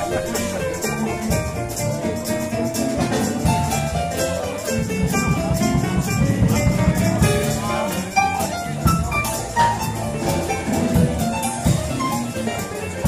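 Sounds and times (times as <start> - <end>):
bass: 0.0 - 13.0
drum kit cymbals: 0.0 - 13.0
piano: 0.0 - 13.0.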